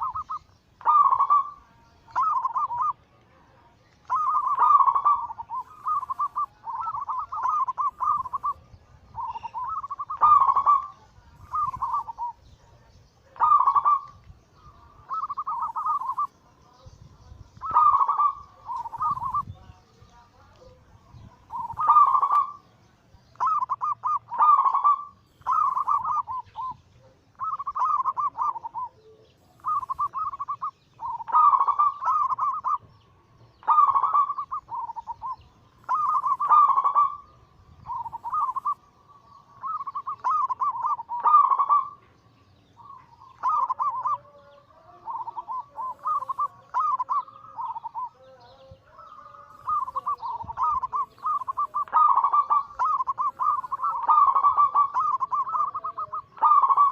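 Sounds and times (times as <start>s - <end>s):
doves cooing: 0.0s - 3.2s, 4.0s - 16.5s, 17.6s - 33.0s, 33.6s - 56.9s.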